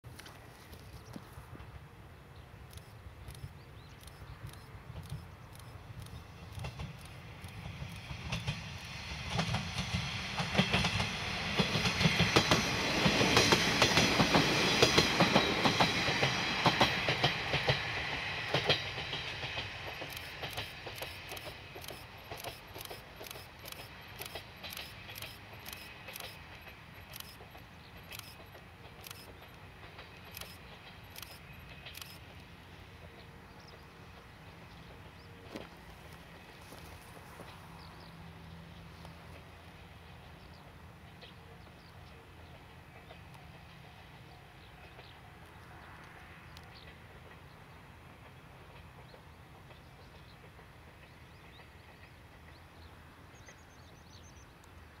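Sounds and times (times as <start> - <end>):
diesel train engine drone: 0.1 - 55.0
train wheel clatter: 2.7 - 38.1, 42.4 - 54.5.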